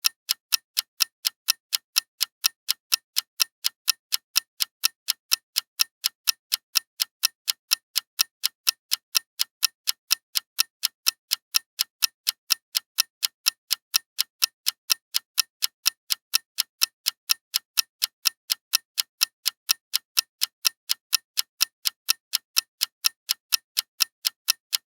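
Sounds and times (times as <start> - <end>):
clock ticking: 0.0 - 24.9.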